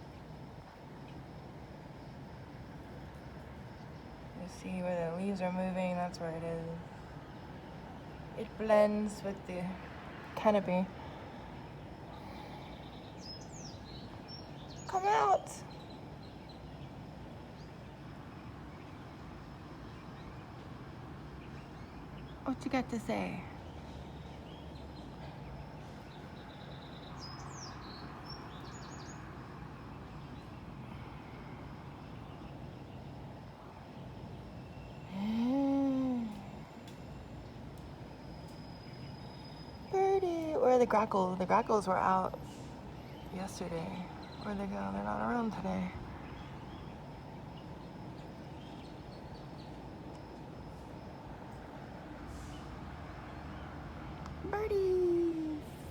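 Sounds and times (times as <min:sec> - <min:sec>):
outdoor background hum: 0:00.0 - 0:55.9.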